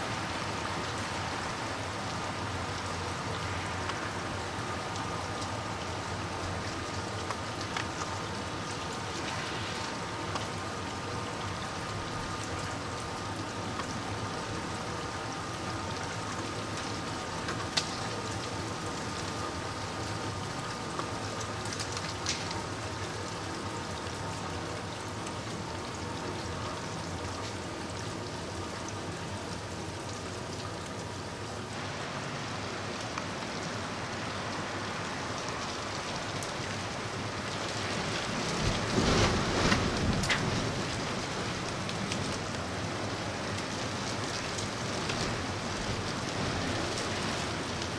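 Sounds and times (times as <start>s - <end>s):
freezing rain pattering: 0.0s - 47.9s.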